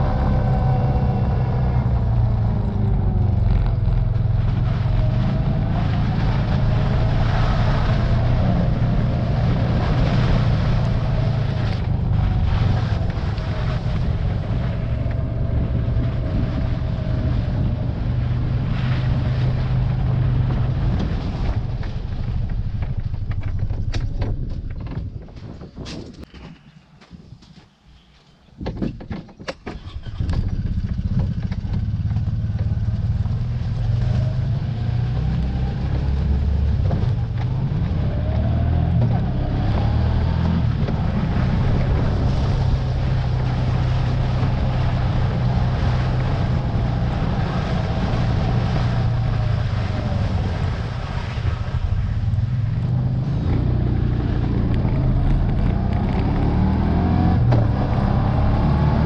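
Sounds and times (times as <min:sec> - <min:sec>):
motor engine running with whine: 0:00.0 - 0:25.3, 0:29.9 - 0:59.0.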